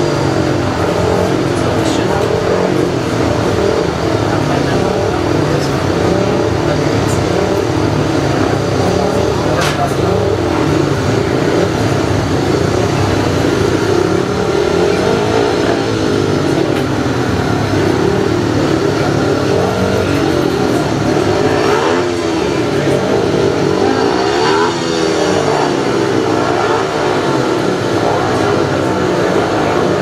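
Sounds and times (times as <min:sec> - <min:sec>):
motorcycle engines racing: 0:00.0 - 0:30.0.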